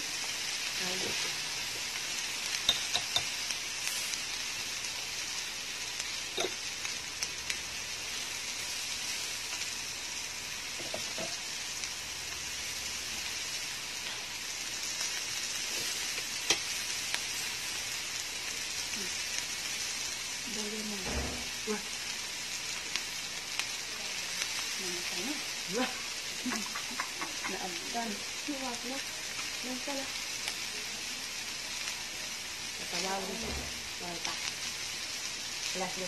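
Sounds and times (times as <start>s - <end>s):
food sizzling on a grill pan: 0.0s - 36.0s.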